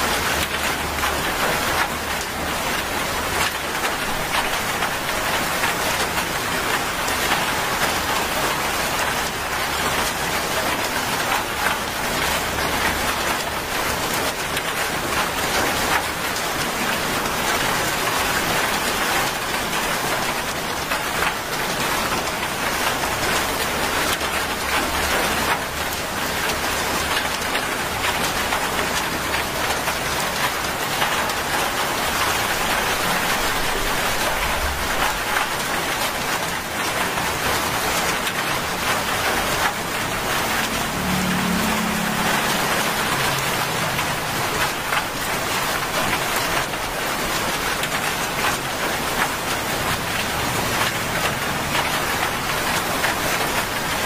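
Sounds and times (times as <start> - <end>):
heavy rain on asphalt: 0.0 - 54.0.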